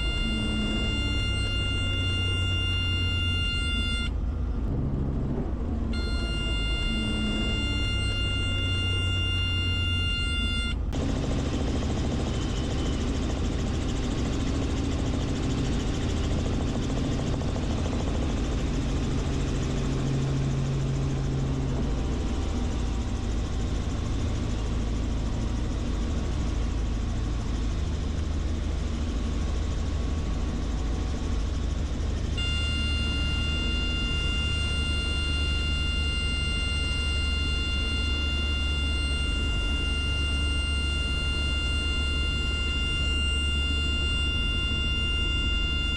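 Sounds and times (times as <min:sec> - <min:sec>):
high whine with overtones: 0:00.0 - 0:27.7, 0:30.2 - 0:45.9
helicopter engine and rotor: 0:00.0 - 0:45.9.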